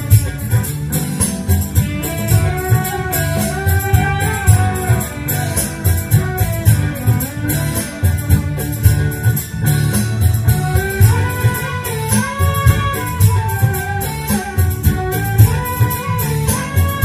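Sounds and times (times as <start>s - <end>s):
live band playing loud music: 0.0s - 17.0s.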